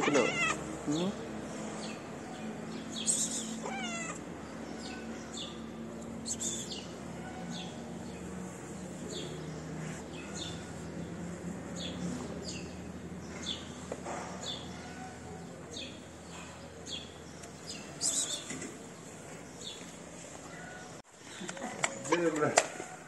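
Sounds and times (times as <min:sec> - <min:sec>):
small birds chirping: 0:00.0 - 0:22.4.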